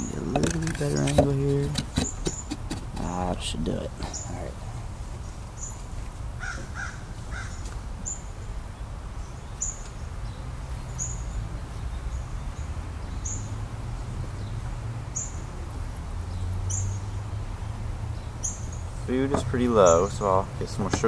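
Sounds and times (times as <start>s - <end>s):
harsh bird calls: 0.0s - 5.8s, 6.4s - 15.6s, 16.2s - 21.0s.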